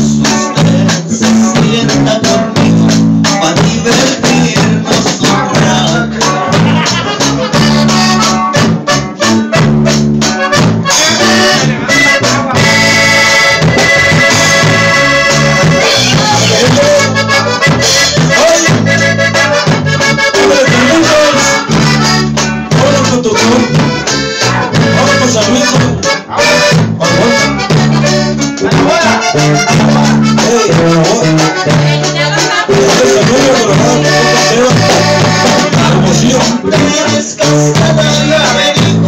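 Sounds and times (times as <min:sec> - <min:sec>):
accordion melody: 0:00.0 - 0:39.0
bass line: 0:00.0 - 0:39.0
guitar: 0:00.0 - 0:39.0.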